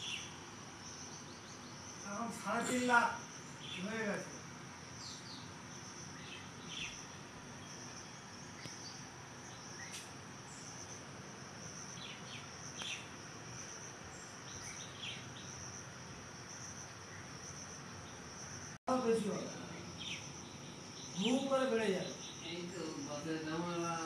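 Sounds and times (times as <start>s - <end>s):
short insect chirps: 0.0s - 23.2s
insects trilling: 0.0s - 24.0s.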